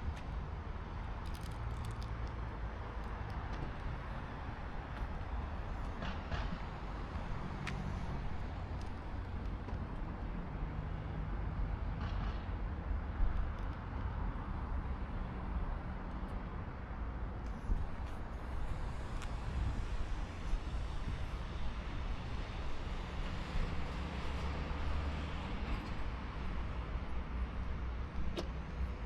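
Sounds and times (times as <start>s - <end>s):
low rumble of road traffic: 0.0s - 29.0s.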